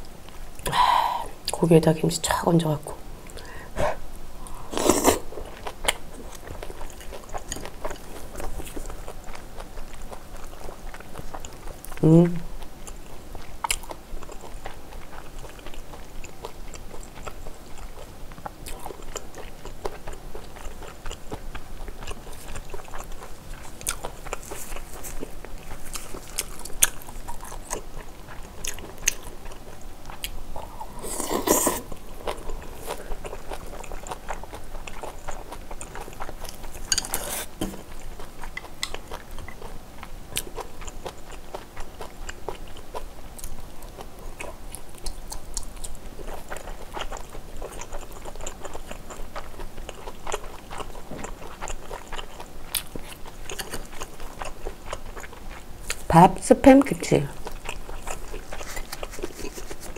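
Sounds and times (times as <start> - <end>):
close chewing and mouth clicks: 4.4 - 56.1, 57.3 - 59.9.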